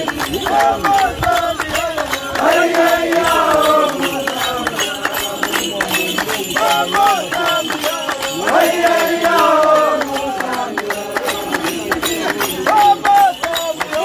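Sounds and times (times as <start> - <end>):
men chanting in chorus: 0.0 - 14.0
sharp percussive beats: 0.0 - 14.0.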